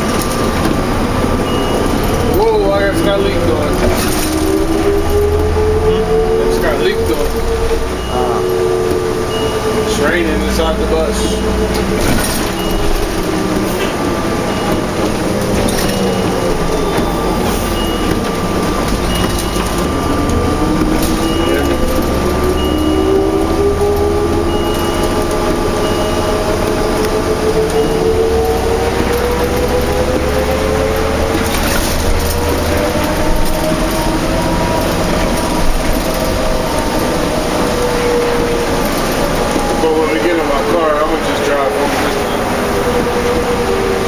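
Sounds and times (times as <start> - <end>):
bus diesel engine running: 0.0 - 44.0
wet road noise: 0.0 - 44.0.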